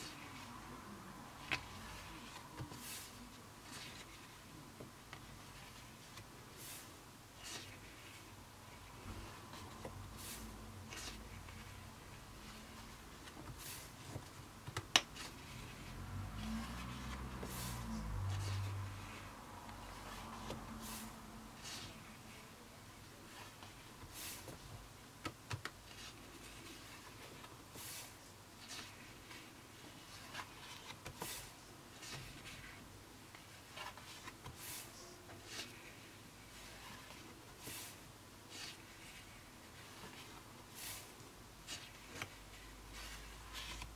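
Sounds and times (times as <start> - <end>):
paper pages rustling: 1.4 - 4.4, 5.1 - 22.5, 23.2 - 43.9.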